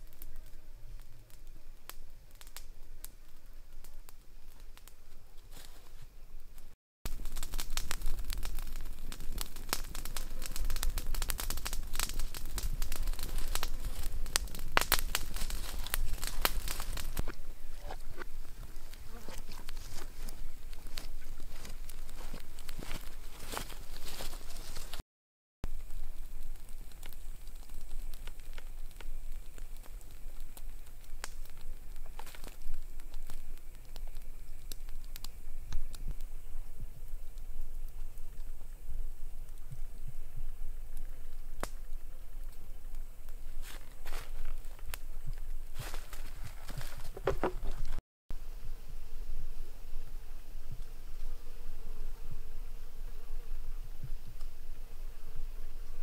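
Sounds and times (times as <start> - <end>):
wood fire crackling and popping: 0.0 - 25.0, 25.6 - 48.0.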